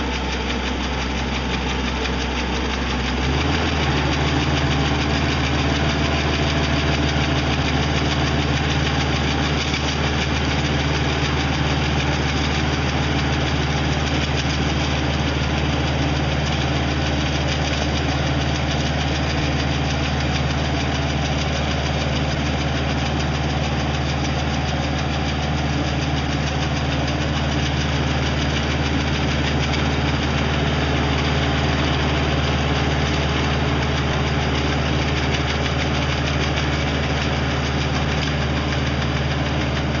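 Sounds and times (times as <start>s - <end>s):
tractor and brush trimmer drone: 0.0s - 40.0s.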